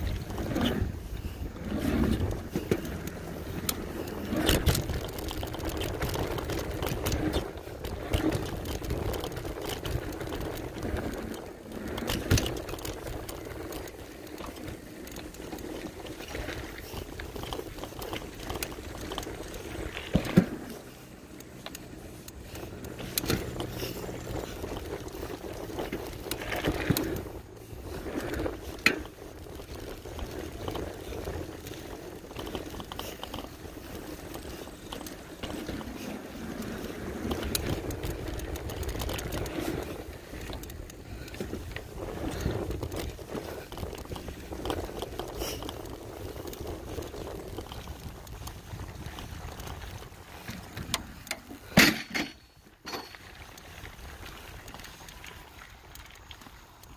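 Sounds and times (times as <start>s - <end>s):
bike tyres rolling on dirt: 0.0s - 56.9s.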